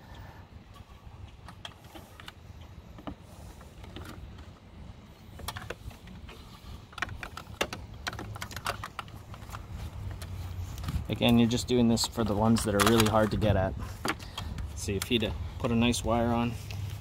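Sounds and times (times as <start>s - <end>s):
light metallic clicks and scrapes: 0.7s - 17.0s.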